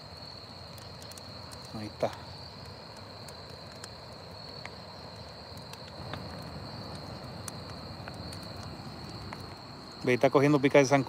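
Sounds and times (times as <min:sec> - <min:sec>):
campfire crackling: 0:00.0 - 0:11.0
crickets trilling: 0:00.0 - 0:11.0.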